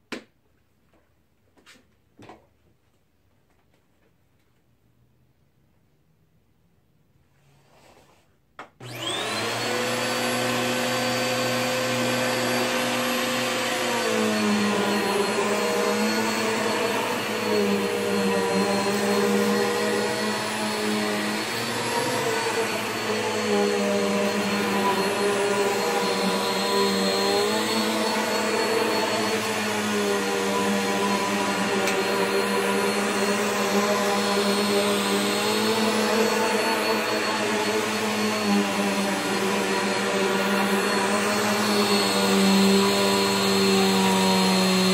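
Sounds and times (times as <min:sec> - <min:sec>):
vacuum motor whining: 0:08.8 - 0:44.9.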